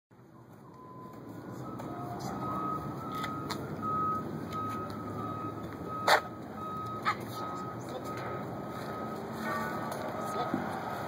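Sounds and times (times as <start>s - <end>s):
reversing alarm beeping: 0.4s - 11.0s.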